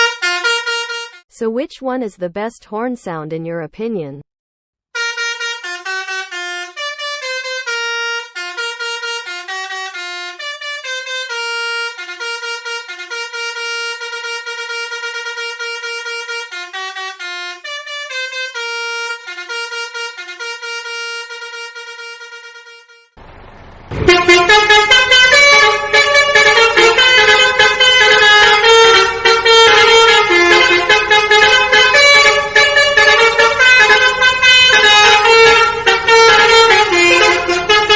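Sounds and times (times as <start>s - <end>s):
horn sounding chords: 0.0s - 1.2s, 5.0s - 37.9s
multi-tone horn melody: 0.0s - 1.2s, 5.0s - 23.2s, 23.9s - 37.9s.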